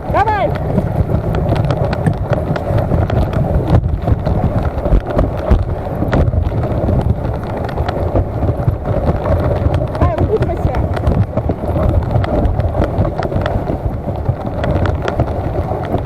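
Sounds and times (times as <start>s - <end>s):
wind buffeting microphone: 0.0s - 16.0s
small knocks and clicks: 0.2s - 16.0s.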